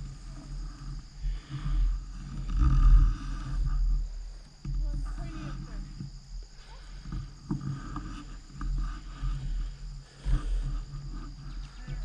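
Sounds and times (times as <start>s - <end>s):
high insect drone: 0.0s - 12.0s
wind and movement rumble: 0.0s - 12.0s.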